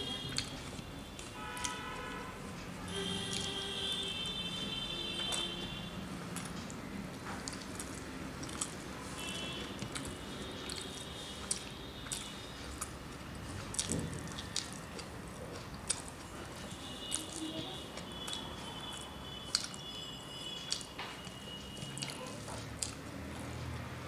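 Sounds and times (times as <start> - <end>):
wet squishy chewing: 0.0 - 24.0.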